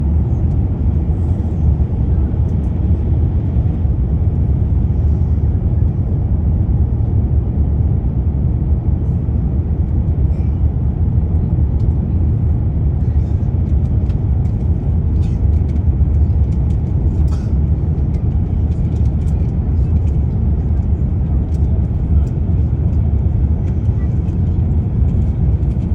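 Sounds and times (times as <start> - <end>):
airliner cabin engine roar: 0.0 - 25.9.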